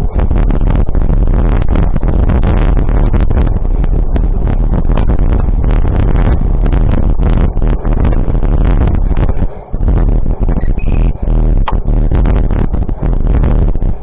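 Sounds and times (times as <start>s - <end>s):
crackling and buffeting: 0.0s - 14.0s
vehicle rumbling: 0.0s - 14.0s.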